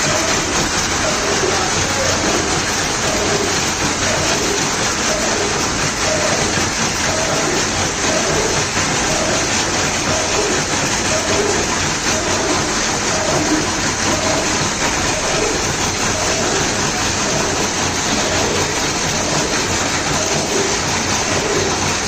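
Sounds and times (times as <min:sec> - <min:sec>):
gear-cutting machine hissing: 0:00.0 - 0:22.0.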